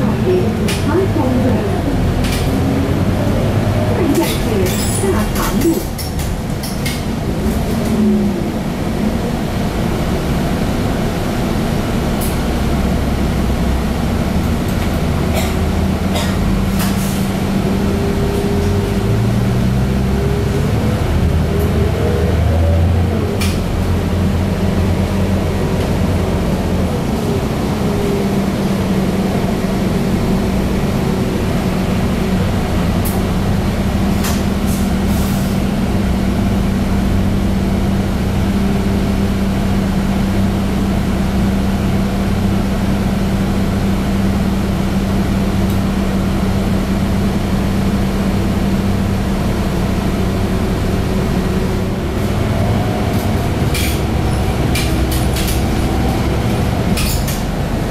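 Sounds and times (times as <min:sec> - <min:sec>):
bus engine droning: 0:00.0 - 0:57.9.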